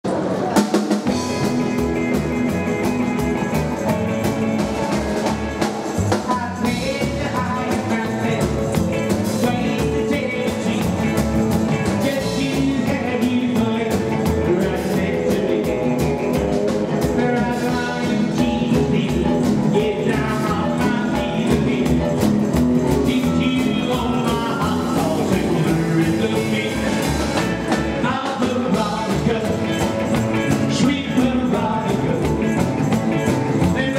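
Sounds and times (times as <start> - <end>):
rock and roll band playing: 0.0 - 33.9
man singing: 1.0 - 33.9.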